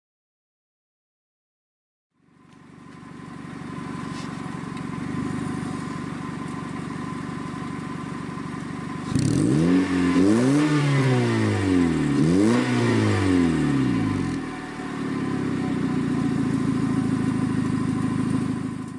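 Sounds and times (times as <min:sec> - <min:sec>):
car engine idling and revving: 0:02.2 - 0:18.9.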